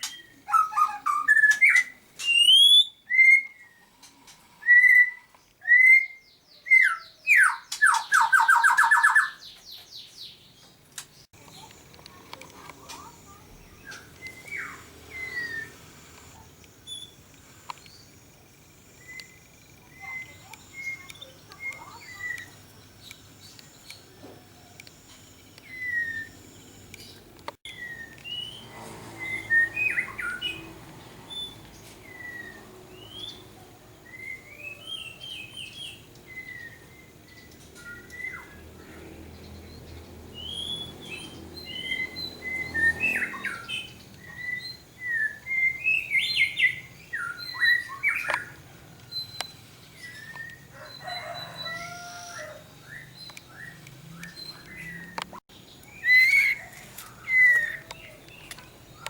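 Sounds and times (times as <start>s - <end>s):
songbirds chirping and whistling: 0.0s - 59.0s.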